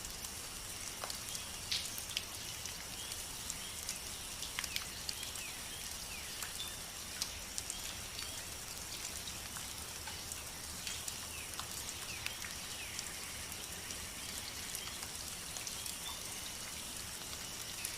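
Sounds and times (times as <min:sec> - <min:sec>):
rain drops clicking on a surface: 0:00.0 - 0:17.9.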